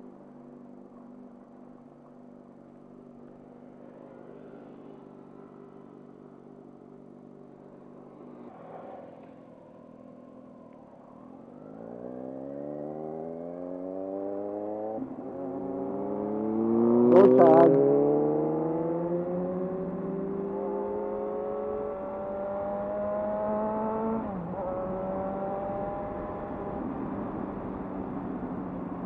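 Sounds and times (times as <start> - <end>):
motorcycle engine accelerating: 0.7 - 29.0.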